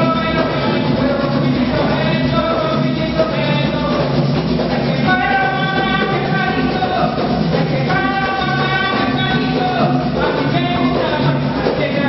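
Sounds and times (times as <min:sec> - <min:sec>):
folk band accompaniment: 0:00.0 - 0:12.0.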